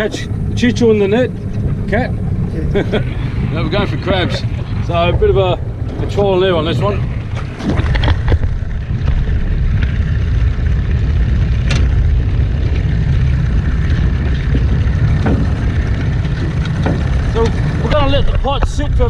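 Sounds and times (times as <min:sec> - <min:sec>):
boat engine rumble: 0:00.0 - 0:19.0.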